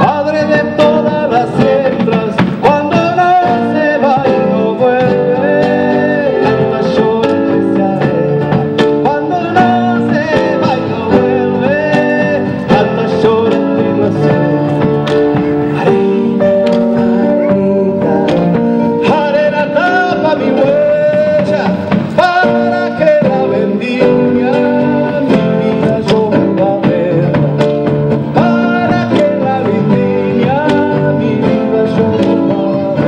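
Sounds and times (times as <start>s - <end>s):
band playing folk music: 0.0s - 33.0s
guitar: 0.0s - 33.0s.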